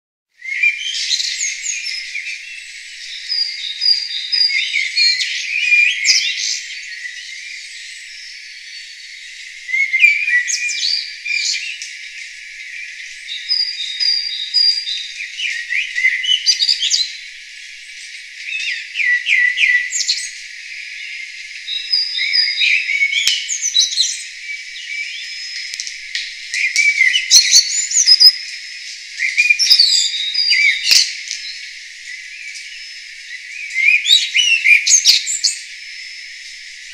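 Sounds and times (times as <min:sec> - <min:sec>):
songbirds singing: 0:00.4 - 0:36.9.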